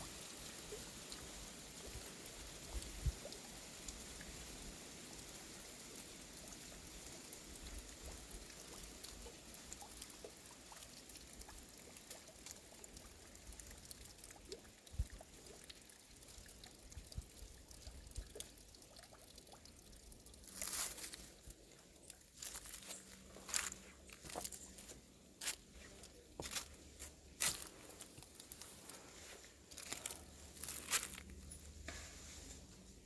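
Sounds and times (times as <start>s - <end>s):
small water drips: 0.0s - 33.0s
water trickling and pouring: 0.0s - 33.0s.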